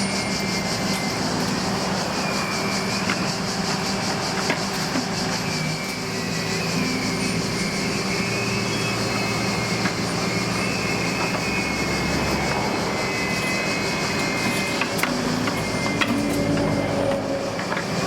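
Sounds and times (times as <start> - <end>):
heavy machinery engine running: 0.0 - 18.0.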